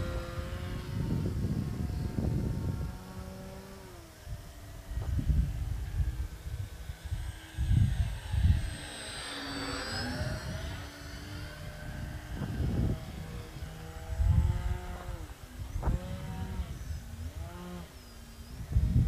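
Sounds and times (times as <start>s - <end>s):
model plane motor whining: 0.0s - 19.0s
wind buffeting microphone: 0.0s - 19.0s.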